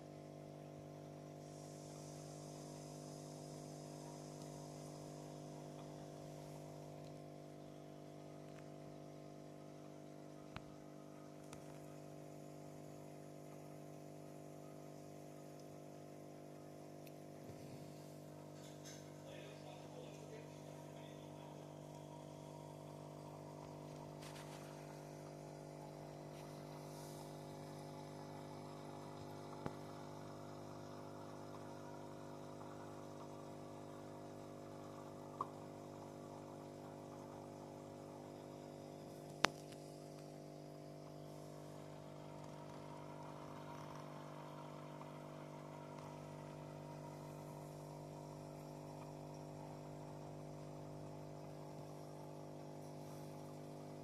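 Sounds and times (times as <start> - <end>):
low hum of held tones: 0.0 - 54.0.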